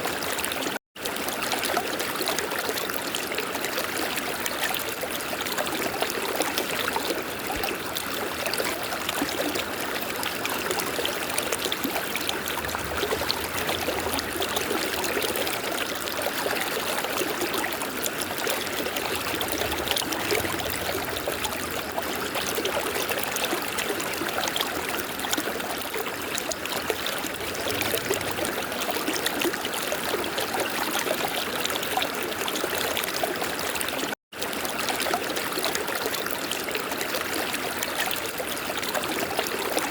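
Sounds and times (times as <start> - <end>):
river water flowing: 2.5 - 34.5.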